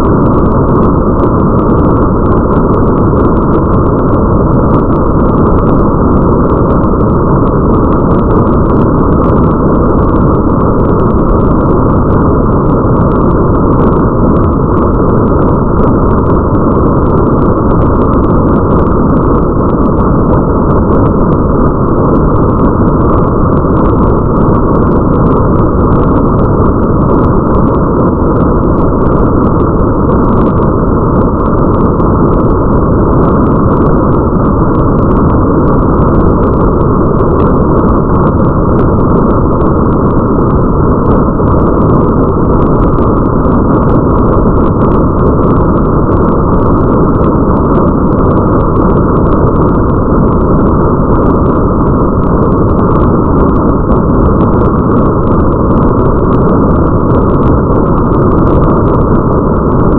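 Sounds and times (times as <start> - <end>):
deep rumble: 0.0 - 59.9
muffled rain: 0.0 - 59.9.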